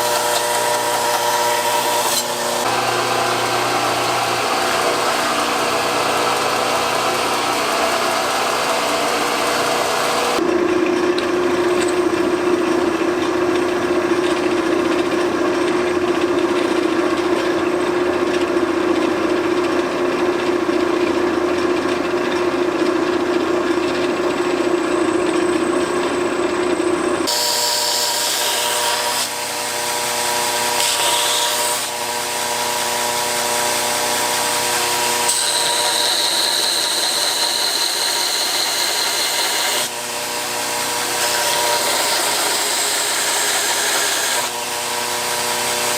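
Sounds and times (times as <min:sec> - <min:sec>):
workshop power tools running: 0:00.0 - 0:45.9.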